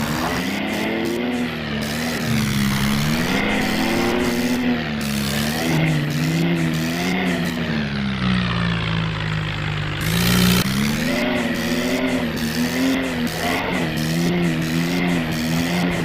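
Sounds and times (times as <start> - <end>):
engine revving up and down: 0.0 - 16.0.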